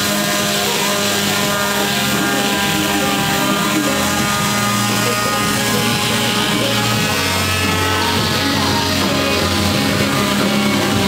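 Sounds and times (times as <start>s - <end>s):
orbital sander sanding wood: 0.0s - 11.0s.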